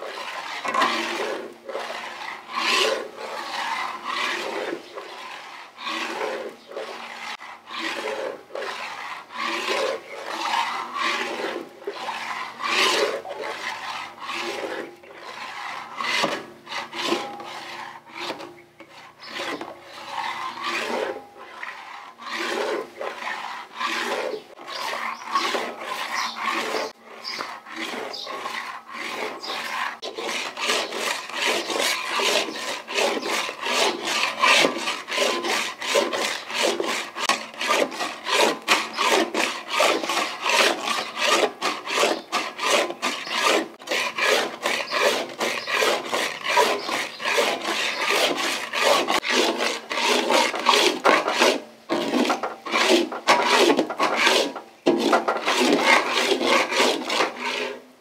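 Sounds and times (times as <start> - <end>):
metal spatula scraping iron pan: 0.0 - 57.9.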